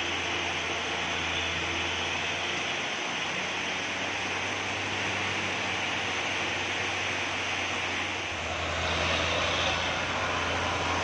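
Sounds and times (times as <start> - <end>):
diesel truck engine running: 0.0 - 11.0
heavy rain hissing: 0.0 - 11.0.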